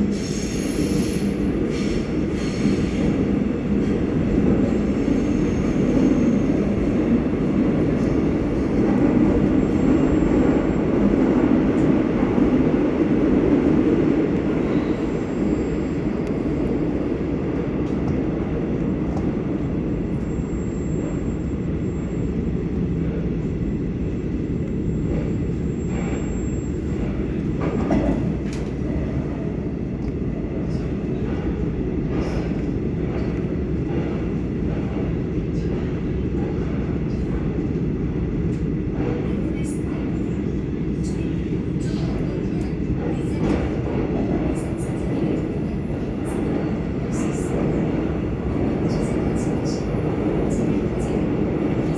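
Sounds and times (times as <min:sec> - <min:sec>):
train wheels rumbling on rail: 0:00.0 - 0:51.9.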